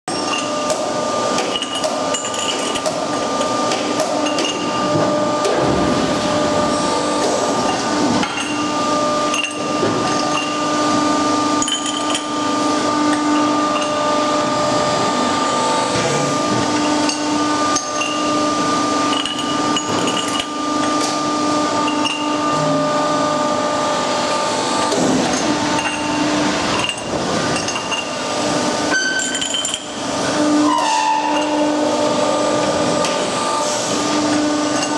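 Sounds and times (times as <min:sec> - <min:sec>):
machinery humming: 0:00.1 - 0:34.9.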